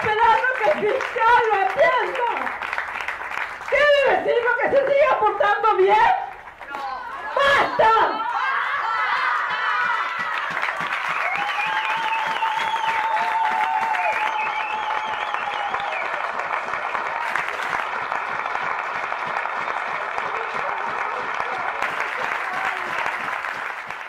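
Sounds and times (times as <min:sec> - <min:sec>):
crowd applauding and cheering: 0:00.0 - 0:05.0, 0:06.2 - 0:24.0.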